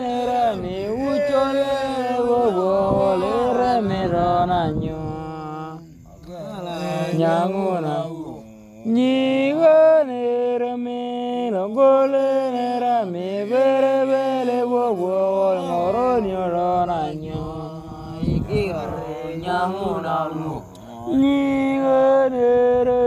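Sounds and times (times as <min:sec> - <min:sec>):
person singing chant-like song: 0:00.0 - 0:23.0.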